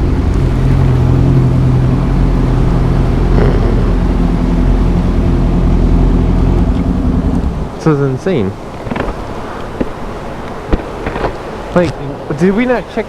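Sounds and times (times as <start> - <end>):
motorcycle engine humming: 0.0 - 11.5
wind and road noise: 0.0 - 13.0.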